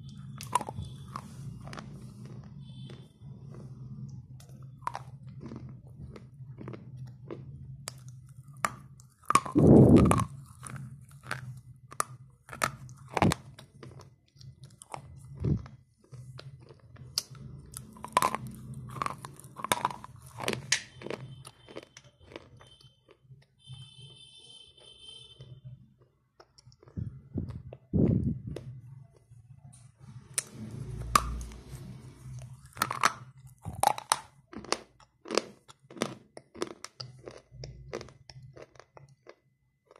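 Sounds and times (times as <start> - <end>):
pencils being chewed crunching: 0.0 - 23.7, 25.4 - 29.4, 30.1 - 39.9.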